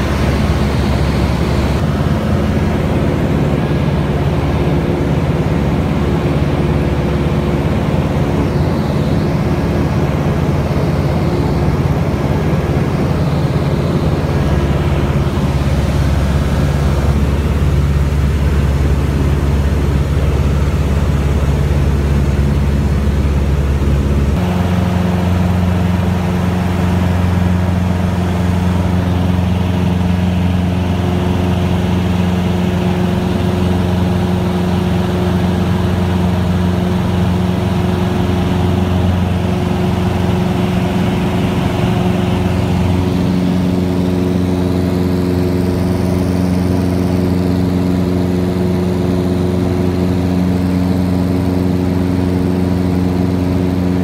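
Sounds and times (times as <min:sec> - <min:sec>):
light aircraft engine drone in cabin: 0:00.0 - 0:54.0.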